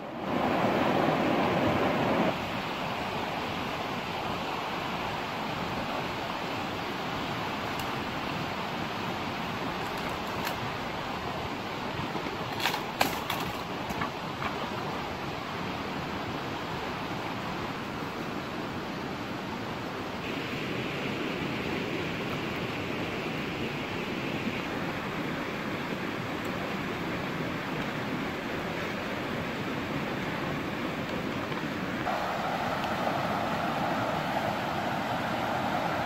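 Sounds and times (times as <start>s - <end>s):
rushing outdoor background noise: 0.0s - 36.0s.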